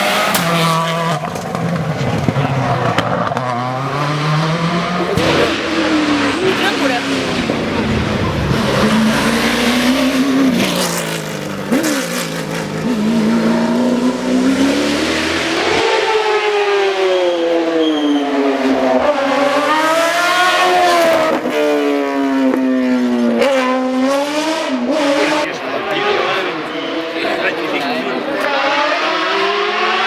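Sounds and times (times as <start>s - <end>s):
racing car engine at full throttle: 0.0s - 30.0s.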